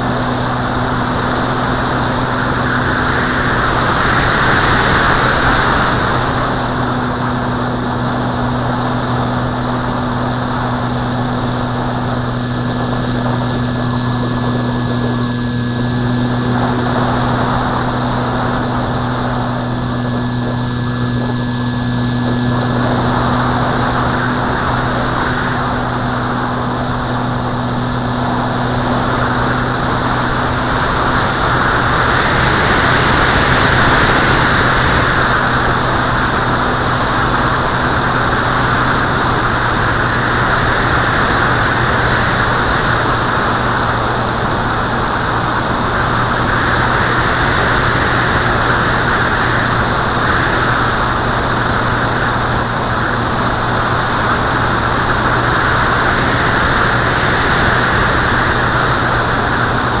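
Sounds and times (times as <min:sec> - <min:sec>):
small aircraft propeller drone: 0:00.0 - 1:00.0
wind on microphone: 0:00.0 - 1:00.0.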